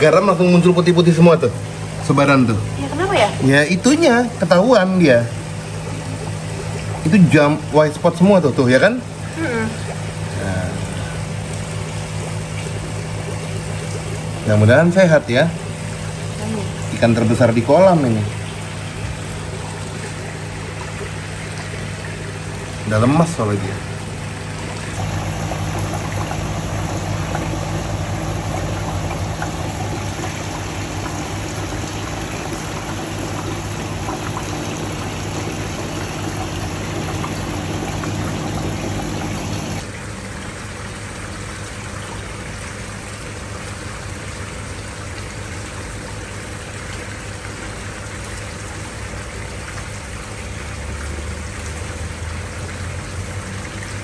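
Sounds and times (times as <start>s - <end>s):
pump humming: 0.0s - 54.0s
water bubbling and trickling: 0.0s - 54.0s.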